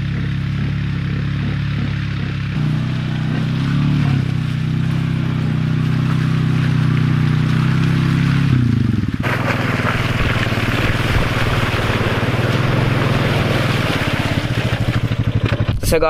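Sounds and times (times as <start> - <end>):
quad engine running under load: 0.0 - 16.0.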